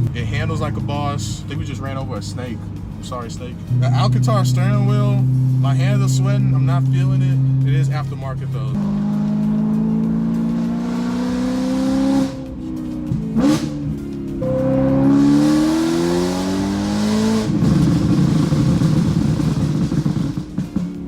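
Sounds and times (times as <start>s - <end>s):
car engine accelerating hard: 0.0s - 21.0s
exhaust crackling and popping: 0.0s - 21.0s.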